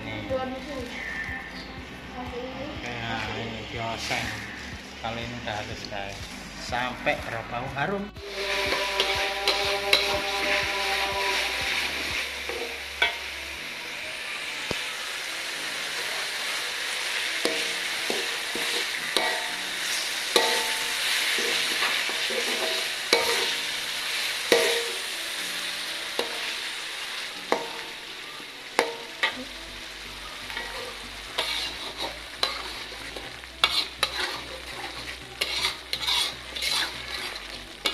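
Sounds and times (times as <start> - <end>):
paste sizzling in hot oil: 2.8 - 6.9, 8.2 - 37.9
utensil scraping a wok: 3.1 - 6.9, 8.2 - 37.9.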